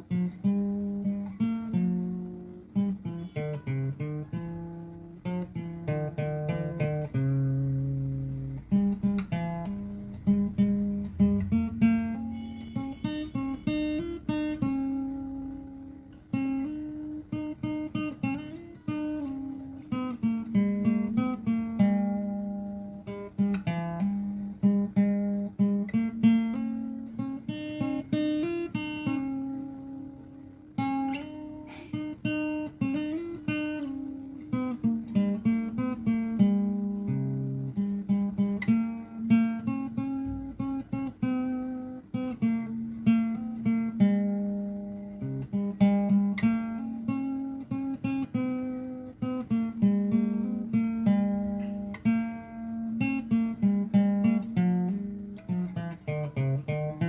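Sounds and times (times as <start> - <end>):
acoustic guitar melody: 0.0 - 57.0.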